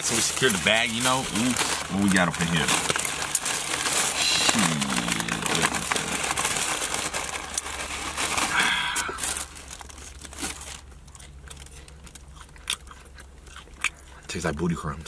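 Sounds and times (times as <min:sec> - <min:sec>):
plastic bag crinkling: 0:00.0 - 0:12.3.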